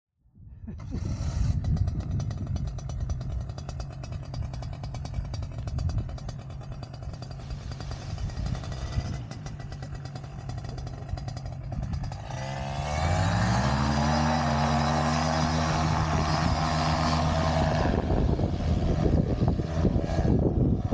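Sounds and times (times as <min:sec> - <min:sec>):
paramotor engine revving: 0:00.8 - 0:20.9.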